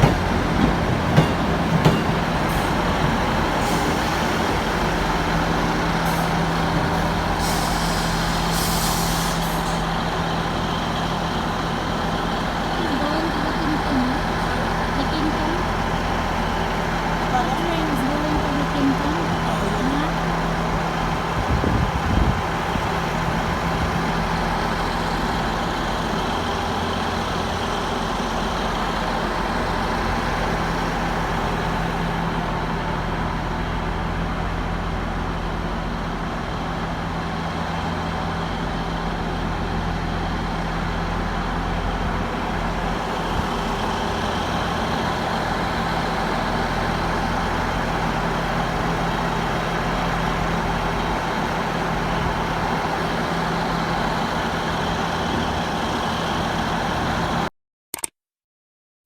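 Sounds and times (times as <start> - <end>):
diesel train engine humming: 0.0 - 57.5.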